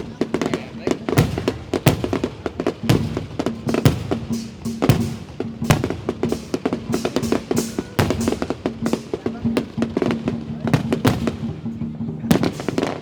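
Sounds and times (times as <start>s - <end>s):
fireworks banging: 0.0s - 13.0s
music playing: 0.0s - 13.0s.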